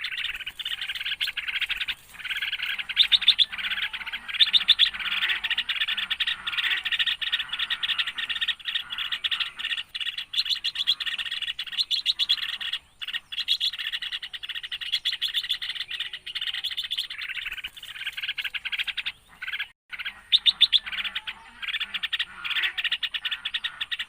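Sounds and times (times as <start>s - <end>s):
birds chirping rapidly: 0.0s - 24.0s.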